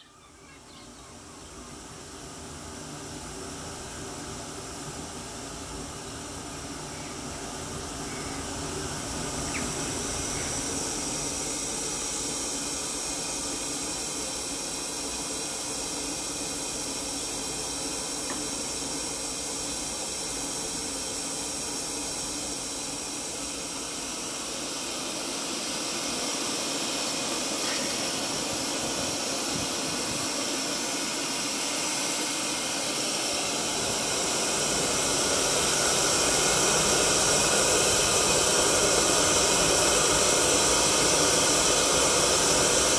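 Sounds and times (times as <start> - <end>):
kiln roaring hiss: 0.0 - 42.9.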